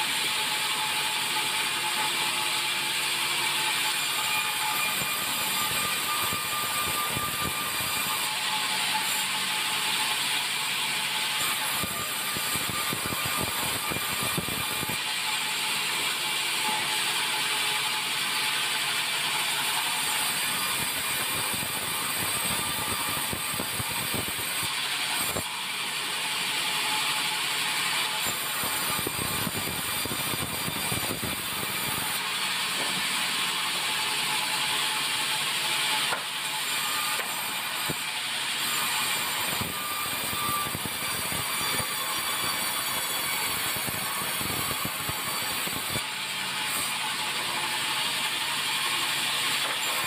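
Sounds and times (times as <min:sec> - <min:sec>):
band saw cutting log: 0:00.0 - 0:50.0.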